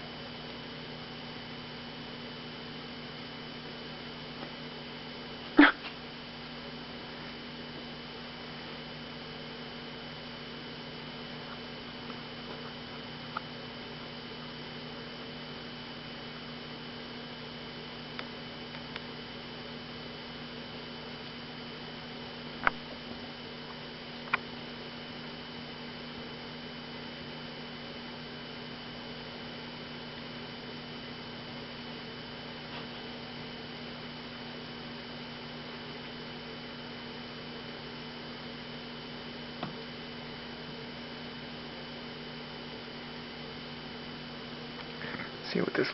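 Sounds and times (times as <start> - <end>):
electrical hum: 0.0 - 45.9.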